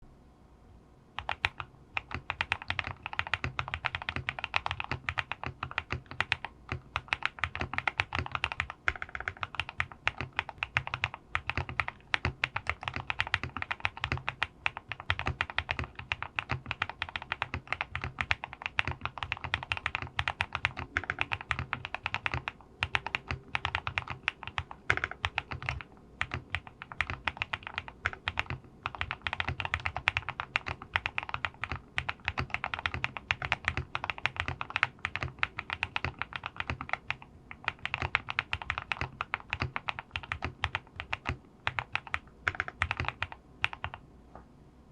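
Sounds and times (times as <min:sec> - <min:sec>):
mechanical keyboard typing: 0:01.2 - 0:44.0.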